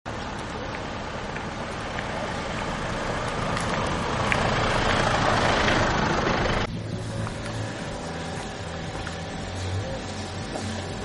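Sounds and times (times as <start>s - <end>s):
pickup truck passing on stone paving: 0.1s - 11.0s.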